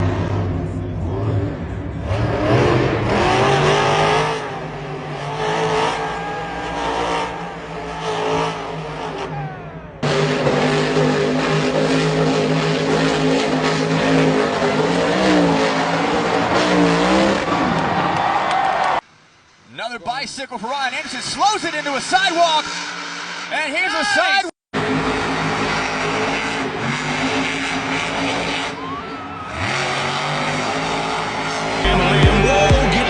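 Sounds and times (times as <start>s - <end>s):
monster truck engines revving: 0.0s - 19.7s, 20.6s - 33.0s.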